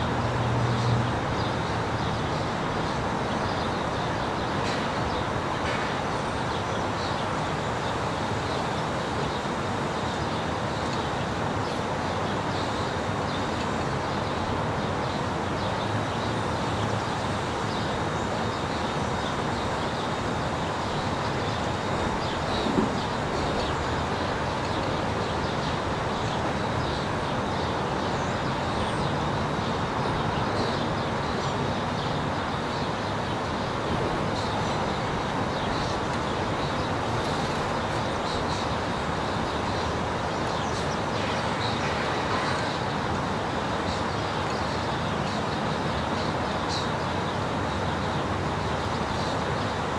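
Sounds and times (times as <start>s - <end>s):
tyres on road: 0.0s - 46.4s
wind: 0.0s - 49.9s.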